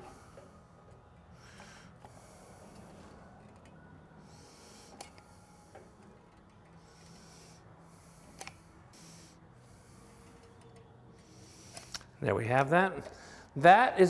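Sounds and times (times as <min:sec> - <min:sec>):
soft breathing: 0:00.0 - 0:12.2, 0:13.0 - 0:13.6.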